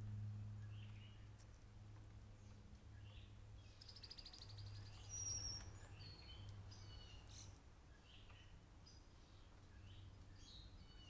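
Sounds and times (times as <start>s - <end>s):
low steady hum: 0.0s - 11.0s
songbirds calling: 0.5s - 11.0s.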